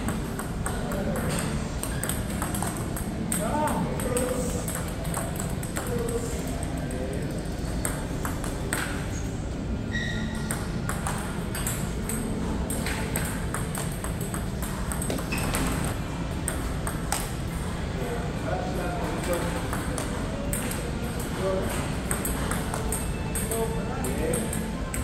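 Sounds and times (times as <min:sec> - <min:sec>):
table tennis ball clicking: 0:00.0 - 0:09.1, 0:10.4 - 0:17.7, 0:19.2 - 0:25.0.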